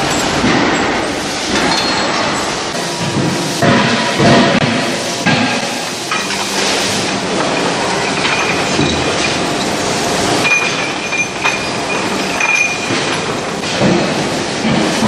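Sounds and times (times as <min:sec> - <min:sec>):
chain conveyor rattling and clanking: 0:00.0 - 0:03.4, 0:05.6 - 0:15.0.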